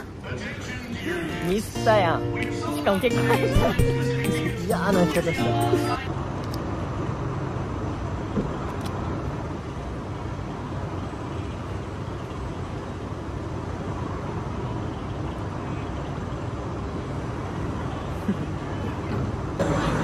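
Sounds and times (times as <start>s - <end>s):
steady outdoor noise: 0.0s - 20.0s.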